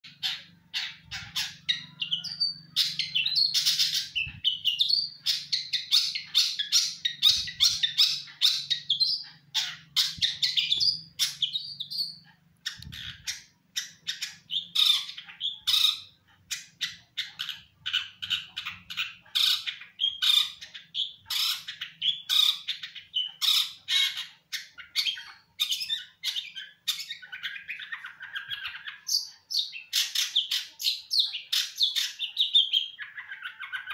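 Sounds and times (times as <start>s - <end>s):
songbird chattering: 0.0s - 33.9s.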